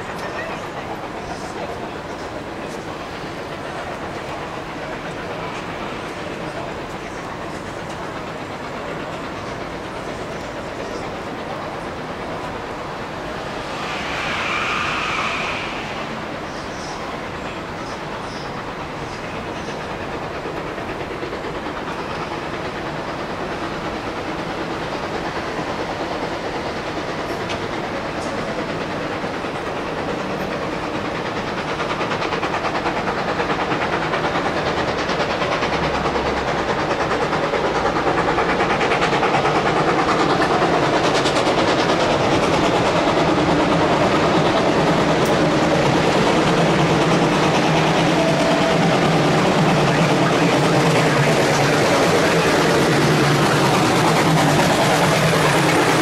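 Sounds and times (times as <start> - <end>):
steam locomotive rumble and hiss: 0.0 - 56.0.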